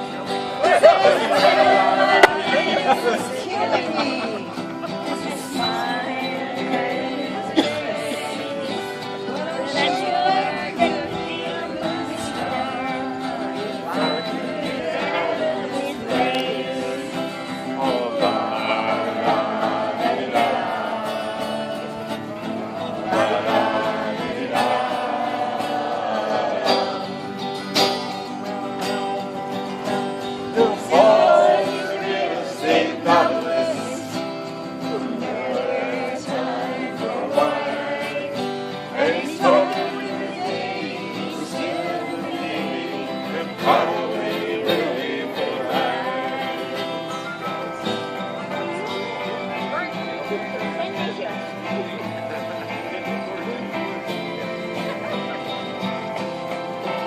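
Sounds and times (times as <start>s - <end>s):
group singing: 0.0s - 49.5s, 52.2s - 57.0s
strummed acoustic guitar: 0.0s - 57.0s.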